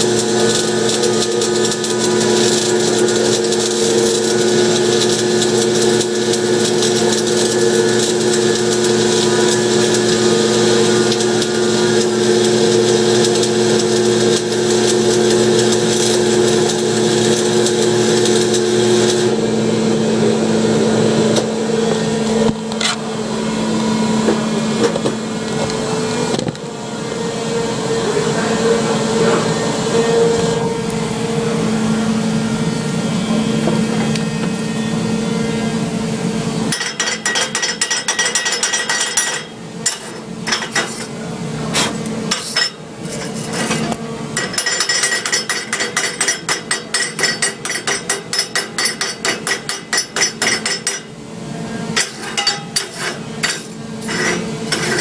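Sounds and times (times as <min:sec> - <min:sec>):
arc welder buzzing and crackling: 0:00.0 - 0:26.7, 0:29.9 - 0:55.0.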